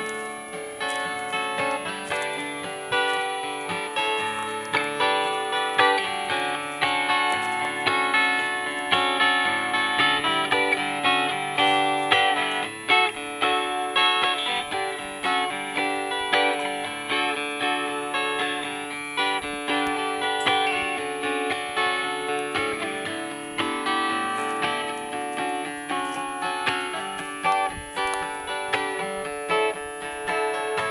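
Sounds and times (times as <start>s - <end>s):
acoustic guitars playing: 0.0s - 30.9s.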